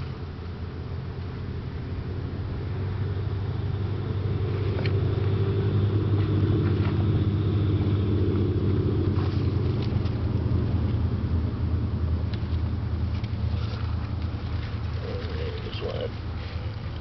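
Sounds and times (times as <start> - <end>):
motor running steadily: 0.0 - 17.0.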